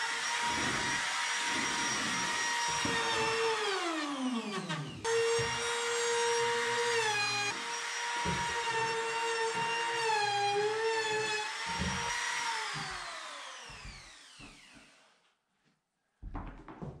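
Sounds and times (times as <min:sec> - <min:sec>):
electric sander on wood: 0:00.0 - 0:15.0.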